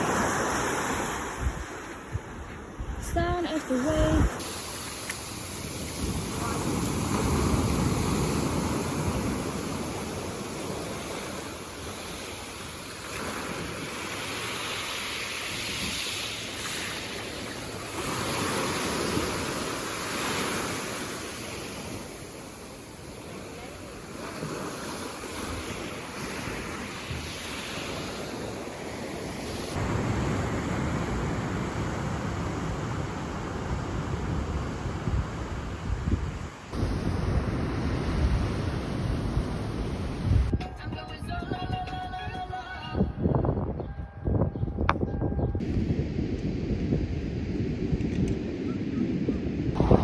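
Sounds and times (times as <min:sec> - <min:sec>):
wind rumbling on microphone: 0:00.0 - 0:04.6, 0:05.2 - 0:40.9, 0:42.4 - 0:50.0
ocean waves breaking: 0:00.0 - 0:40.5.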